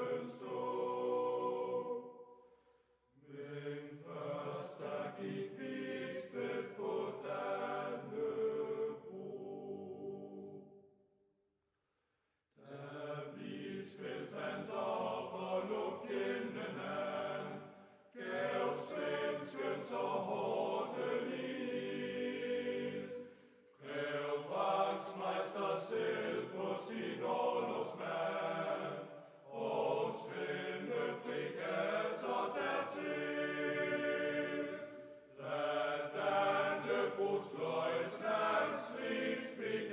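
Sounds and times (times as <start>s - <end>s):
chant-like choral singing: 0.0s - 10.9s, 12.6s - 39.9s.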